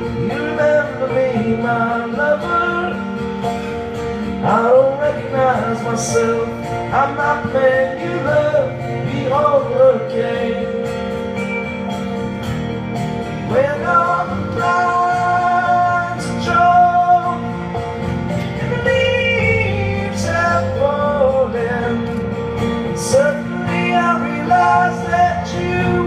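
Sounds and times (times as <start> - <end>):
man singing: 0.0 - 11.1, 13.3 - 26.0
acoustic guitar: 0.0 - 26.0.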